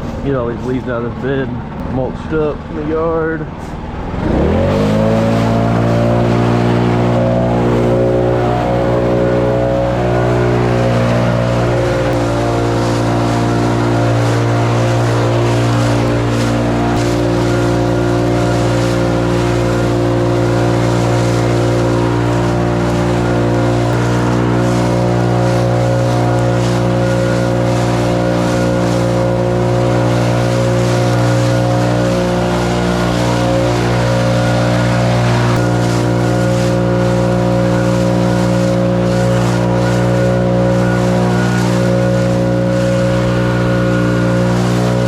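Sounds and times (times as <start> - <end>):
small gasoline engine running: 0.0 - 45.0.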